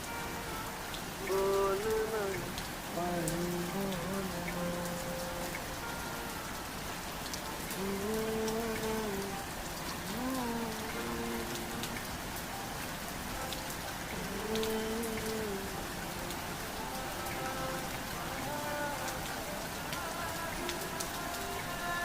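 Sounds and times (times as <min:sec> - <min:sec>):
slowed song notes: 0:00.0 - 0:22.0
steady rain falling: 0:00.0 - 0:22.0.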